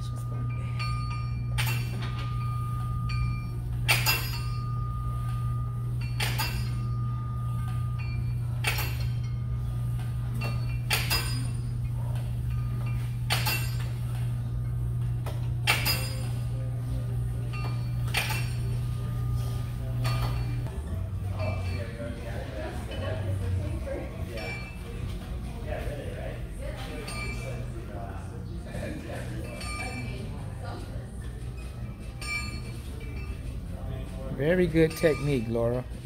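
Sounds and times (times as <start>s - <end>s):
metal gym weights clinking: 0.0s - 25.2s, 26.6s - 27.8s, 28.7s - 35.9s
steady low hum: 0.0s - 36.0s.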